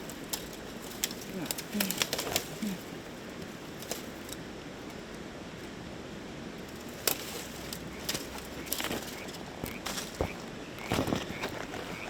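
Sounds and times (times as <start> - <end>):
outdoor air hiss: 0.0 - 11.8.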